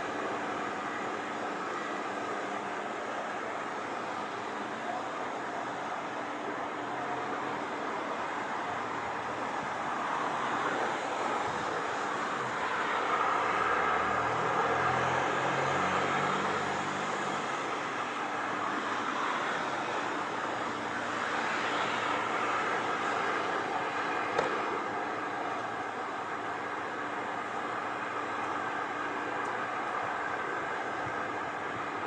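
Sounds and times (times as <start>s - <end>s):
jet engines taxiing: 0.0s - 32.0s.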